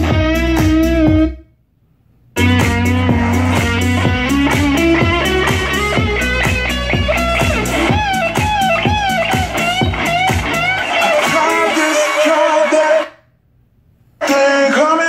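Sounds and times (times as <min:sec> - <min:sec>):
rock music from a speaker: 0:00.0 - 0:01.4, 0:02.4 - 0:13.1.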